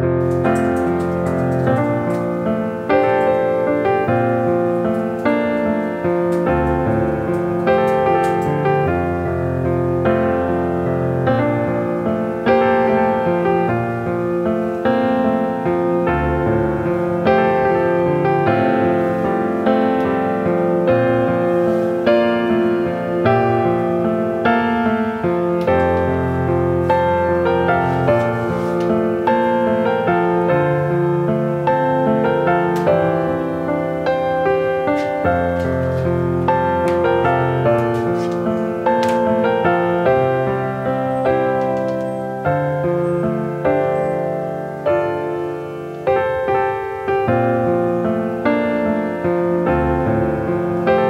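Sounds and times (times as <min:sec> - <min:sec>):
piano chords: 0:00.0 - 0:51.0.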